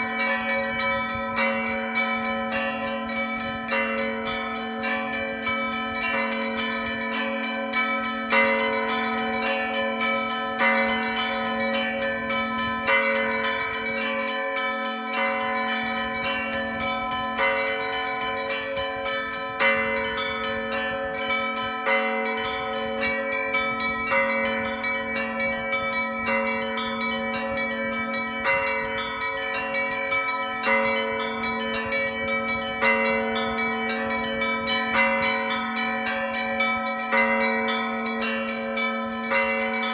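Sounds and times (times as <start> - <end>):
heavy church bell: 0.0 - 39.9
small bells ringing: 0.0 - 39.9.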